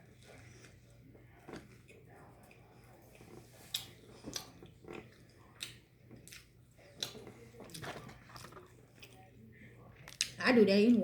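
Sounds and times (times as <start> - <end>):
person chewing and smacking food: 0.0 - 10.4.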